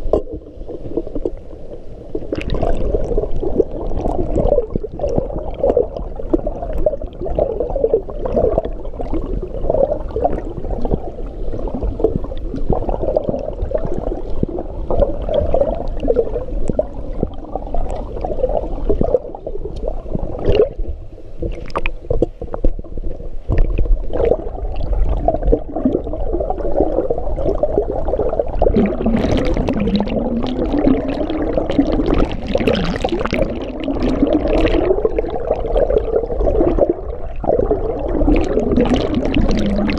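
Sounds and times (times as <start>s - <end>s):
underwater swimming splashes: 0.0s - 39.9s.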